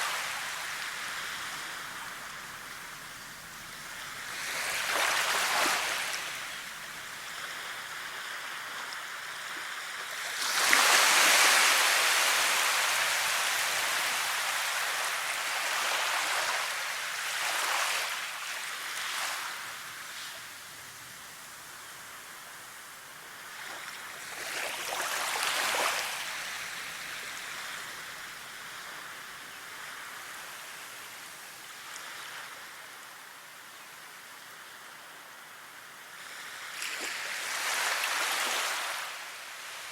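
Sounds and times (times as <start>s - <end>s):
waves surging and washing back: 0.0s - 39.9s.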